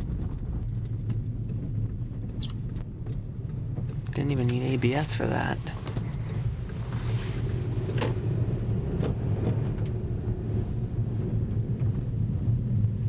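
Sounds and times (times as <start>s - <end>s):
car engine drone: 0.0s - 13.0s
tire noise on snow: 0.0s - 13.0s.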